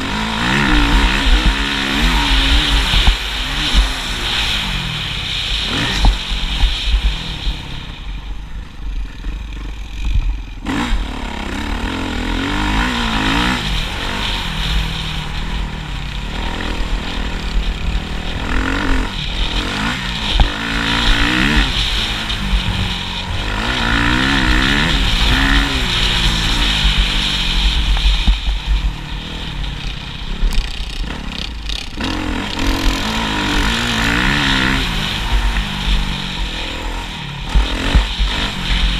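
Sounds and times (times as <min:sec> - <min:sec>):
low rumble: 0:00.0 - 0:38.9
motocross bike engines revving: 0:00.0 - 0:38.9.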